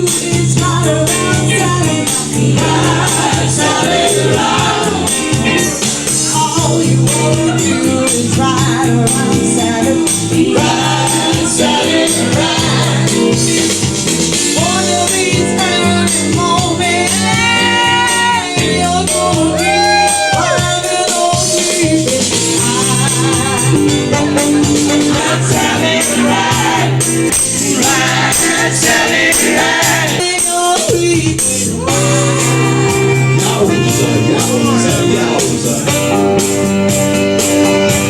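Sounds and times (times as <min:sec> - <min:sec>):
bending guitar lead line: 0:00.0 - 0:30.2, 0:31.4 - 0:38.0
walking bass line: 0:00.0 - 0:30.2, 0:31.0 - 0:38.0
blues rock band playing: 0:00.0 - 0:38.0.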